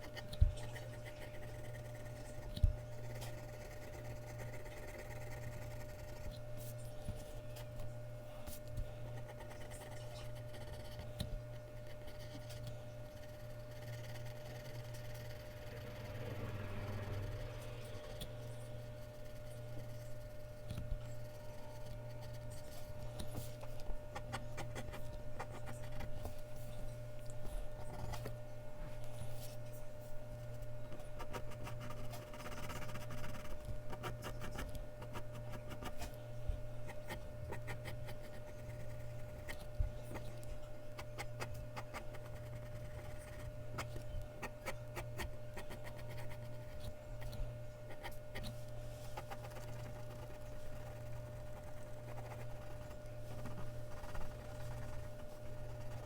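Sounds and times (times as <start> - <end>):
pencil scratching on paper: 0.0 - 7.7, 9.1 - 11.2, 11.8 - 26.4, 27.8 - 28.3, 30.5 - 36.2, 36.9 - 56.0
low electrical hum: 0.0 - 56.0.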